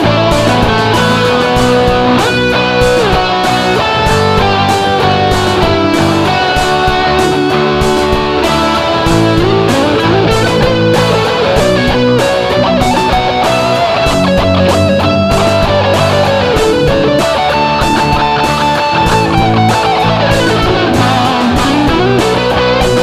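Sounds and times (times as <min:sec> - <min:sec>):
bass guitar: 0:00.0 - 0:23.0
drum hits: 0:00.0 - 0:23.0
sliding lead melody: 0:00.0 - 0:23.0
strummed guitars: 0:00.0 - 0:23.0.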